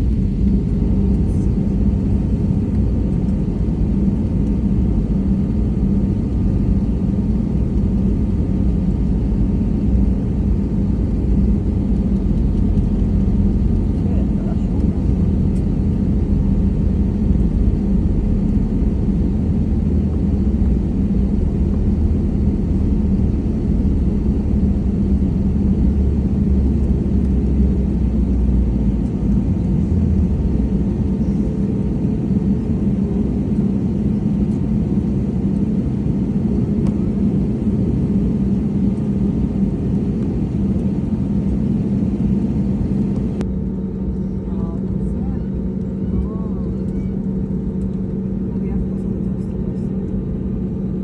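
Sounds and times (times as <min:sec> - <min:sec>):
jet engines rumbling: 0:00.0 - 0:43.5
low hum: 0:00.0 - 0:50.2.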